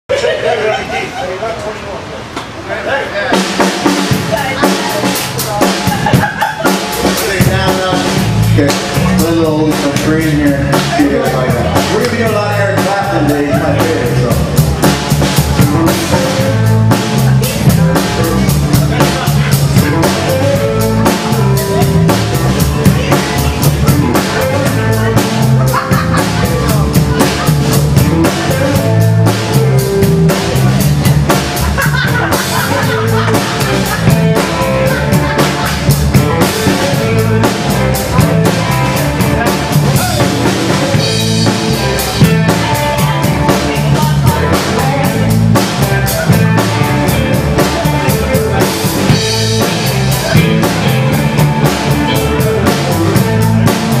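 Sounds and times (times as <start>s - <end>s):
live rock band: 2.0s - 54.0s
drum kit beat: 3.3s - 54.0s.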